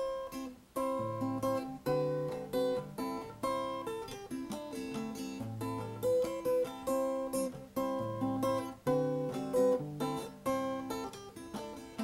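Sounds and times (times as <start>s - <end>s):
acoustic guitar playing chords: 0.0s - 12.0s.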